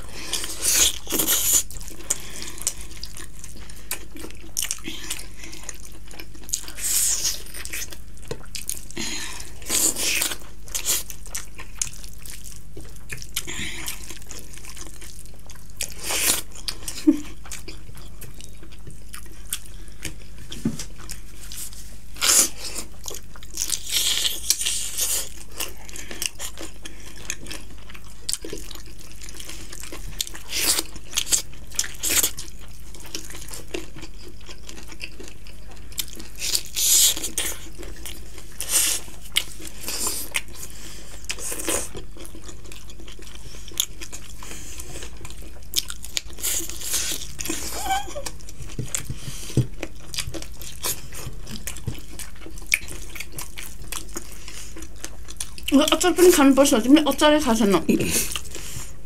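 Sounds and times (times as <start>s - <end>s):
people chewing and biting: 0.0s - 57.1s, 58.1s - 59.0s.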